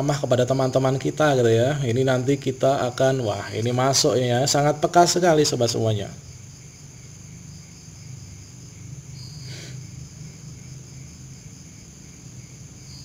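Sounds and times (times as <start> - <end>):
high-pitched insect chirring: 0.0 - 13.0
steady low hum: 0.0 - 13.0.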